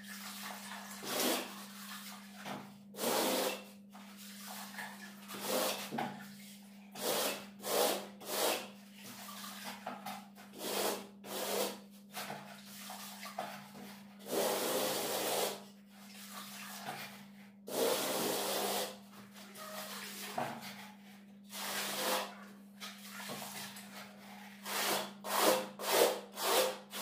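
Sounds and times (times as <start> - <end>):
float scraping plastered wall: 0.0 - 27.0.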